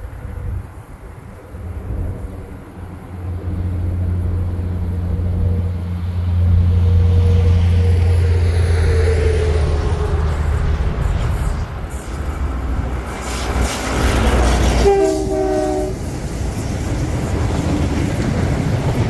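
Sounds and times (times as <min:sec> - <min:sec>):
diesel train engine drone: 0:00.0 - 0:19.0.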